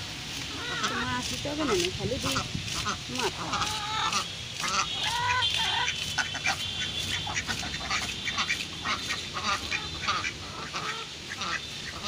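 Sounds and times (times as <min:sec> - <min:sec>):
quacking bird calls: 0:00.5 - 0:12.0.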